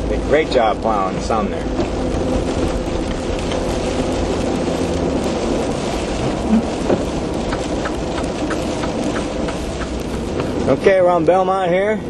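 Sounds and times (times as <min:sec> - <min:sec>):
road and engine noise inside vehicle: 0:00.0 - 0:12.0.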